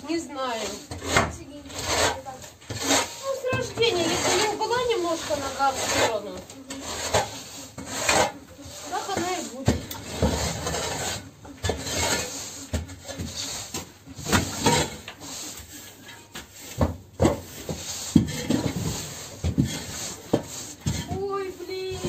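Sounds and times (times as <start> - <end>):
shovel scraping concrete floor: 0.0 - 22.0.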